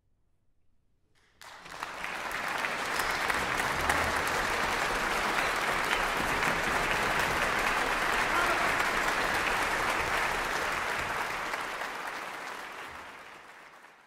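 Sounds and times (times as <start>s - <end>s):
audience applause: 1.4s - 14.0s.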